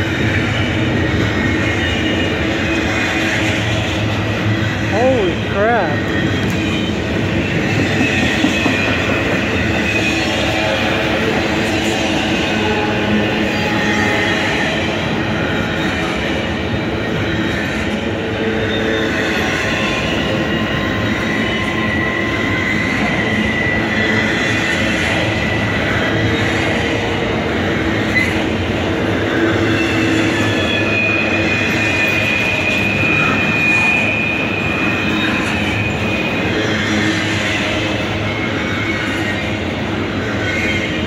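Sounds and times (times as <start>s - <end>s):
high wheel squeal: 0.0s - 41.0s
steel wheels rumbling on rail: 0.0s - 41.0s.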